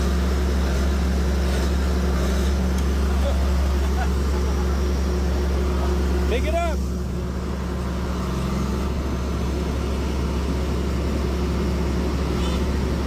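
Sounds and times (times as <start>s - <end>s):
bulldozer diesel engine droning: 0.0s - 13.0s.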